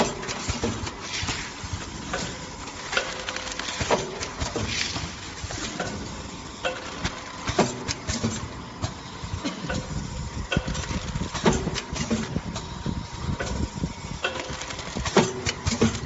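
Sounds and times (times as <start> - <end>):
machine clicks and knocks: 0.0 - 9.0, 9.6 - 12.7, 13.3 - 16.0
packaging machine hum: 0.0 - 16.0.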